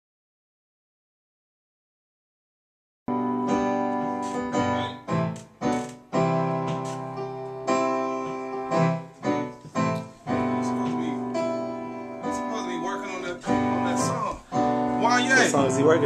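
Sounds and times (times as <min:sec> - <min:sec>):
keyboard piano chords: 0:03.1 - 0:16.0.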